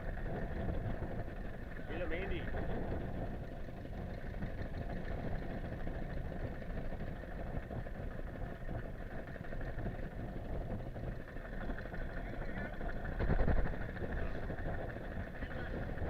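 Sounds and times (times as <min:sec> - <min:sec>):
boat engine rumbling: 0:00.0 - 0:16.0
wind buffeting microphone: 0:00.0 - 0:16.0.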